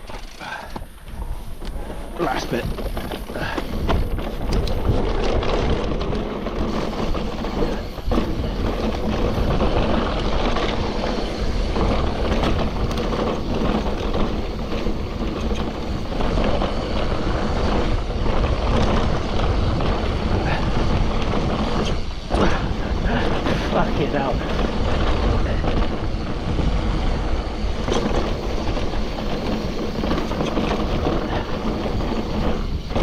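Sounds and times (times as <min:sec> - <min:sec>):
bike rattling: 0:00.0 - 0:33.0
bike tyres rumbling over dirt: 0:00.0 - 0:33.0.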